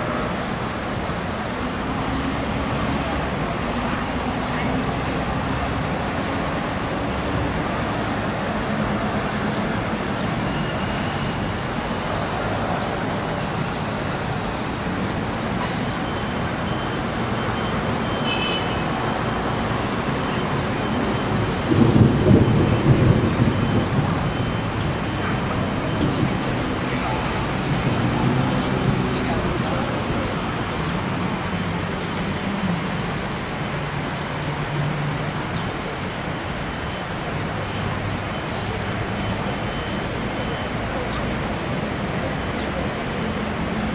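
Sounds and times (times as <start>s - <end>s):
city street traffic: 0.0s - 43.9s.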